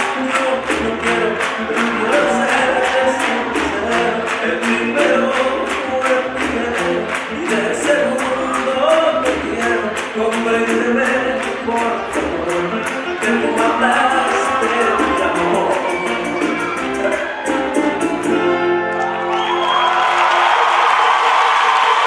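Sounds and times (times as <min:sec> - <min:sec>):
steady percussion beat: 0:00.0 - 0:18.4
person singing: 0:00.0 - 0:18.7.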